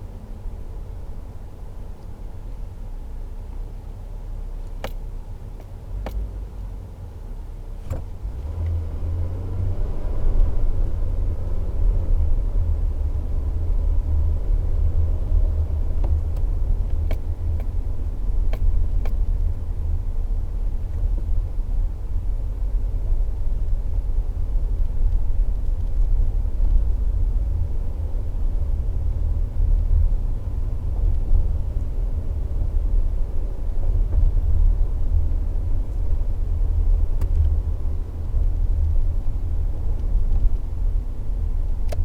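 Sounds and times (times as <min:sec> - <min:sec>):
truck engine and road rumble: 0:00.0 - 0:42.0.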